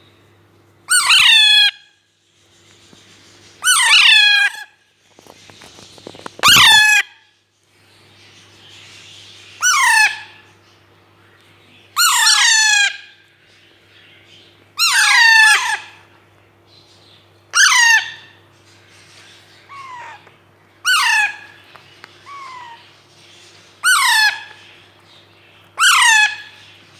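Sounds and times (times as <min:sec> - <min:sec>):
parakeets squawking: 0:00.9 - 0:02.0, 0:02.6 - 0:07.3, 0:08.0 - 0:10.8, 0:11.7 - 0:16.2, 0:16.8 - 0:26.9.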